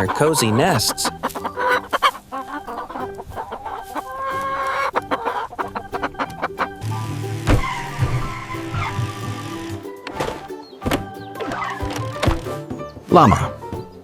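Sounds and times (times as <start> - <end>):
chickens clucking: 0.0 - 14.0
light background music: 0.0 - 14.0.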